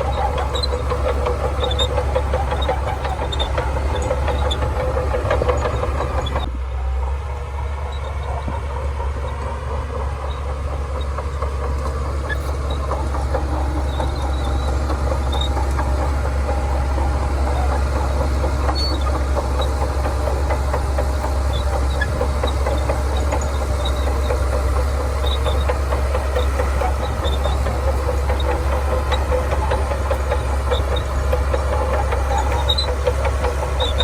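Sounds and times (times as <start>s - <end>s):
bulldozer diesel engine: 0.0s - 34.0s.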